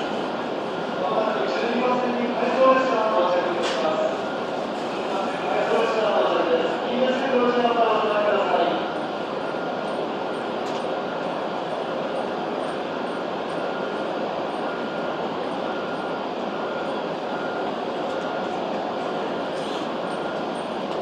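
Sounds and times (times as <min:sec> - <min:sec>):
train running in slowly: 0:00.0 - 0:21.0.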